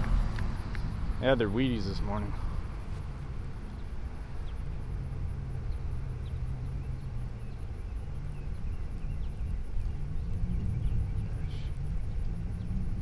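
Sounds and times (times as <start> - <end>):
high pulsing insect-like tone: 0.0 - 13.0
steady low rumble: 0.0 - 13.0.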